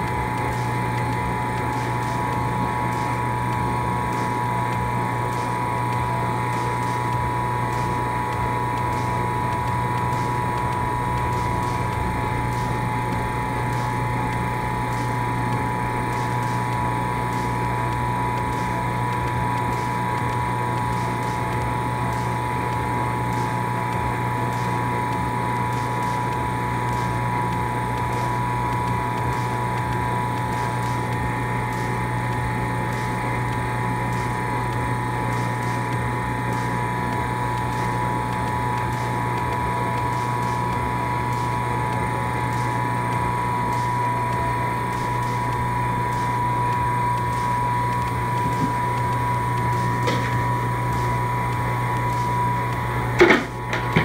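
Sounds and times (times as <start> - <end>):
electric motor humming: 0.0 - 54.0.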